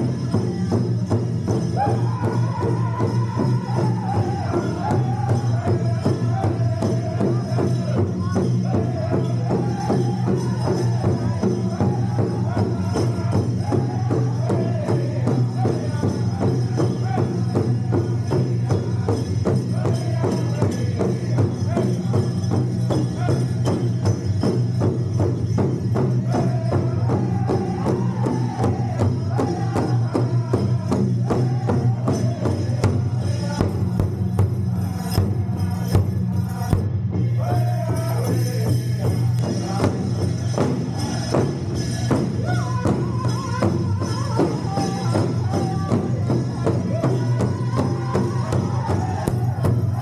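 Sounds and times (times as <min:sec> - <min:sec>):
group singing: 0:00.0 - 0:50.0
large drum beat: 0:00.0 - 0:50.0.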